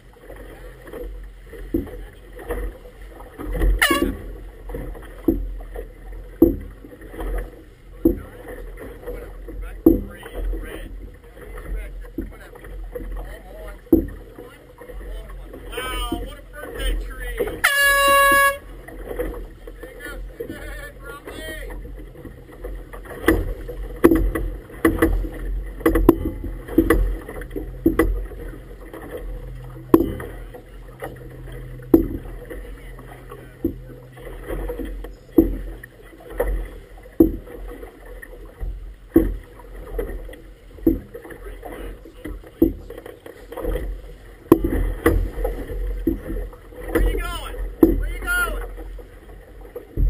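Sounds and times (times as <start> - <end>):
low steady hum: 0.0 - 50.0
low wash of water: 0.0 - 50.0
water slapping boat hull: 0.0 - 50.0.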